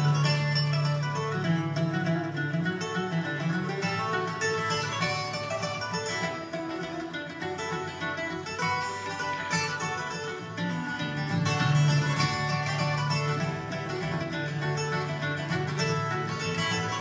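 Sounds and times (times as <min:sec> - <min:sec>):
bluegrass band playing: 0:00.0 - 0:17.0.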